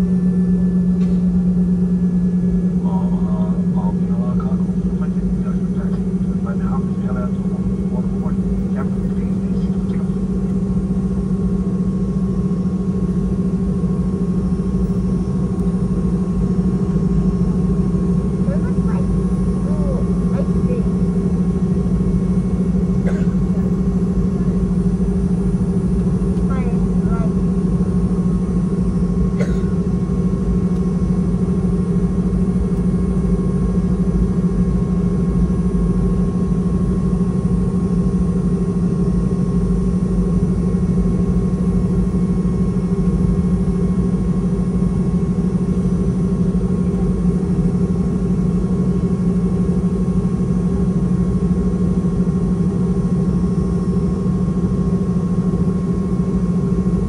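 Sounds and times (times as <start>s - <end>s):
airliner cabin drone: 0.0s - 57.0s
thin steady whine: 0.0s - 57.0s.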